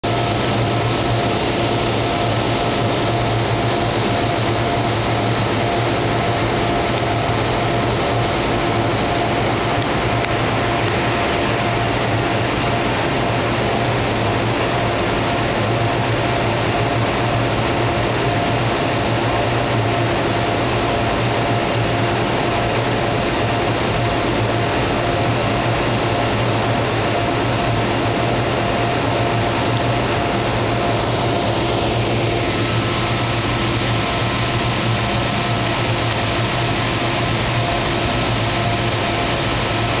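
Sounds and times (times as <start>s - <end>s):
machinery hum: 0.0s - 40.0s.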